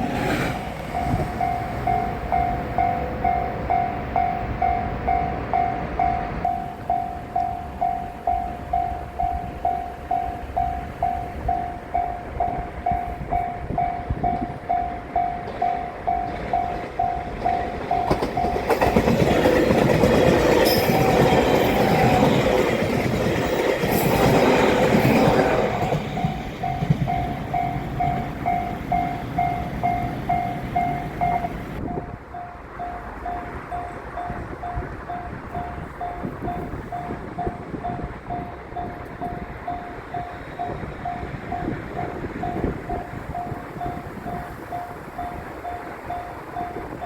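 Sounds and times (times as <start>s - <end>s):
train wheel and rail noise: 0.0s - 47.0s
level-crossing warning bell ringing: 0.8s - 47.0s.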